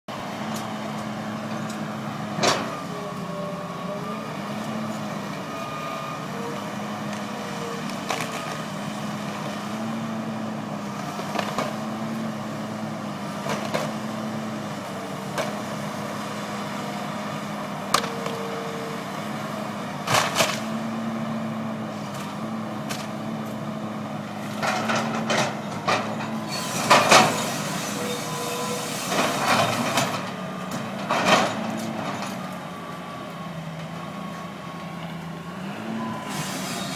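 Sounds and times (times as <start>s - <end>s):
large engine running: 0.1s - 36.9s.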